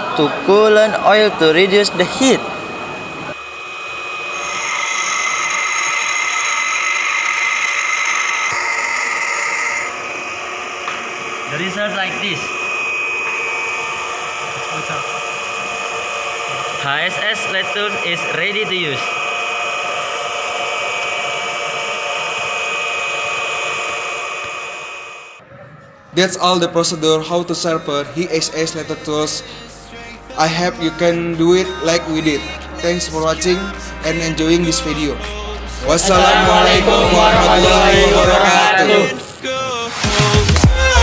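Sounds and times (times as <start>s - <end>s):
bench grinder whining: 0.0s - 25.4s, 28.2s - 39.5s.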